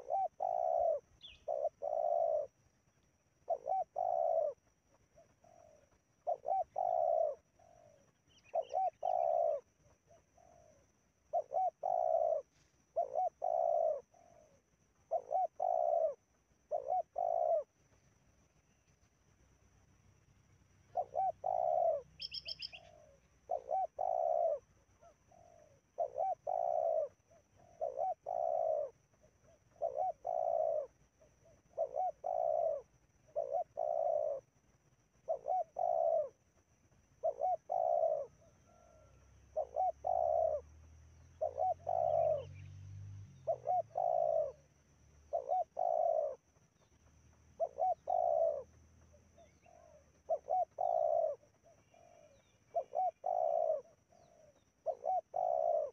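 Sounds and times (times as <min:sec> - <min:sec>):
dove cooing: 0:00.0 - 0:18.0, 0:20.8 - 0:42.7, 0:43.4 - 0:55.9.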